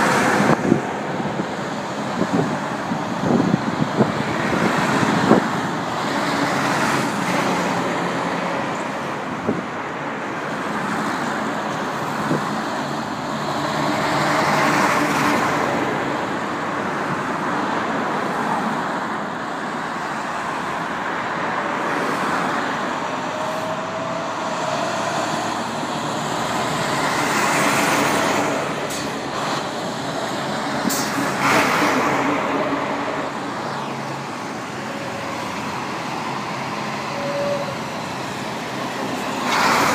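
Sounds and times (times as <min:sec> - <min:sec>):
cars and trucks passing: 0:00.0 - 0:39.9.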